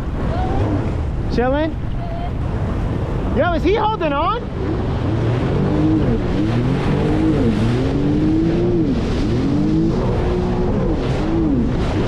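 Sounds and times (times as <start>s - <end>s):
jet ski engine revving: 0.0s - 12.0s
water rushing: 0.0s - 12.0s
wind noise: 0.0s - 12.0s.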